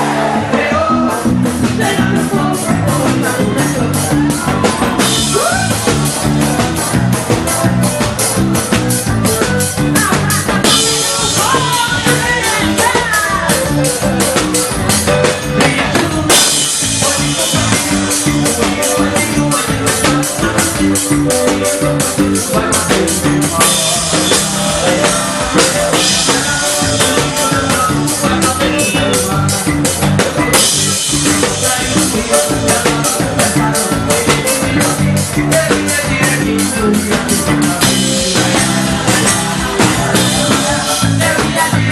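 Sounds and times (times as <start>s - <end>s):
driving drum beat: 0.0s - 41.9s
melodic lead line: 0.0s - 41.9s.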